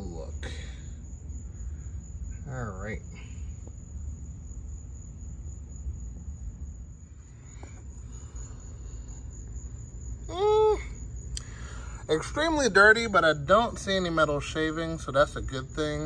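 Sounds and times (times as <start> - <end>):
cricket trilling: 0.0 - 16.0
low outdoor rumble: 0.0 - 16.0.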